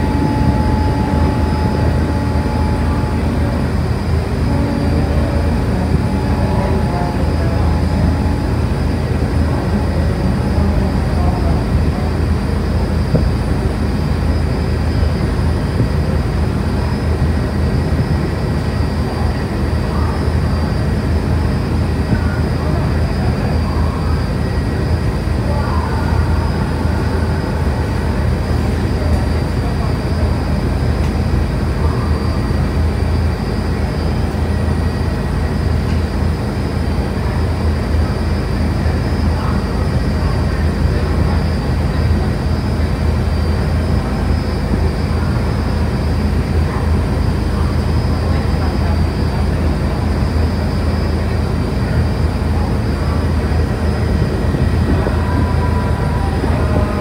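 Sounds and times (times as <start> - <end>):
ferry engine drone: 0.0 - 57.0.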